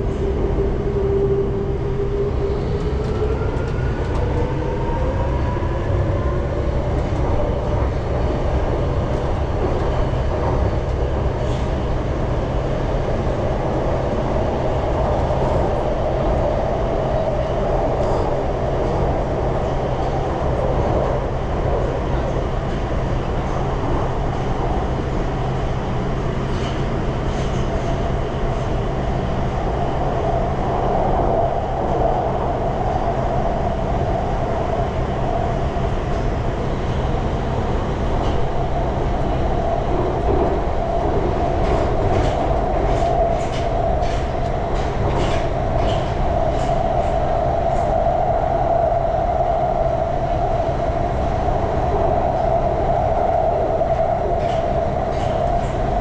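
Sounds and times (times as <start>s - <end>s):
metro train rumble: 0.0s - 56.0s.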